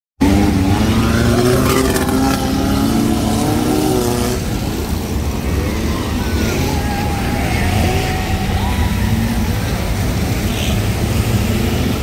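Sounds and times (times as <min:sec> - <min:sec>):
jeep engines revving: 0:00.2 - 0:12.0.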